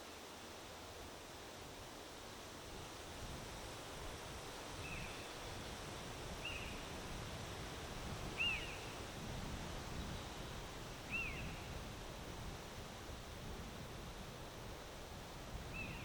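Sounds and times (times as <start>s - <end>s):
wind blowing: 1.0s - 16.0s.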